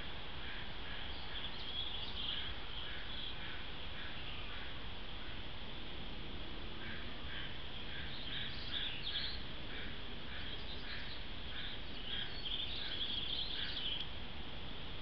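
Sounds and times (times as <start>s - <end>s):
small birds chirping: 0.0s - 4.8s, 6.8s - 14.2s
steady background hiss: 0.0s - 15.0s.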